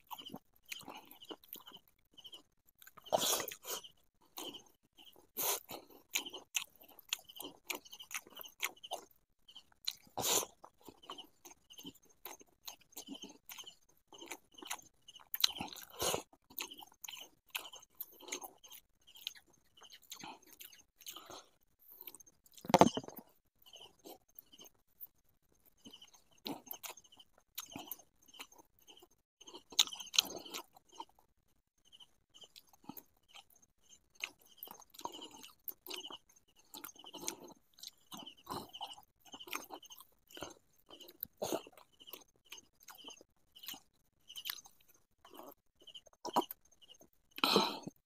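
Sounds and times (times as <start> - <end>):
person chewing and crunching: 0.0 - 31.3, 31.9 - 48.0.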